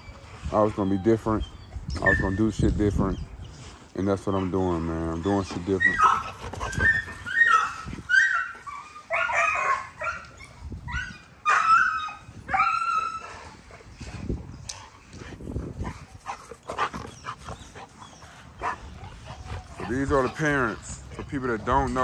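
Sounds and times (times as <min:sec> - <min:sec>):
dogs whining and yipping: 0:00.0 - 0:22.0.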